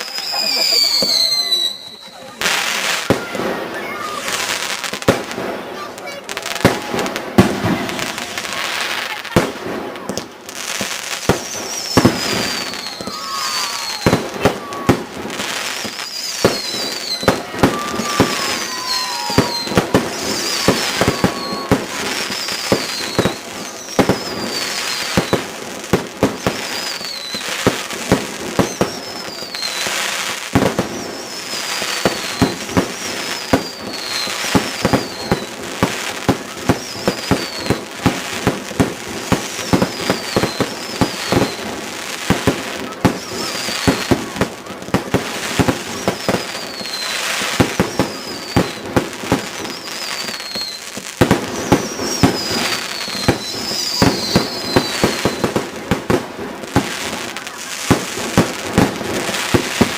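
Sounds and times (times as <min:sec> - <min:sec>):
firework whistles falling in pitch: 0:00.0 - 0:04.9, 0:11.1 - 0:56.2
fireworks bangs and cracks: 0:00.0 - 0:59.9.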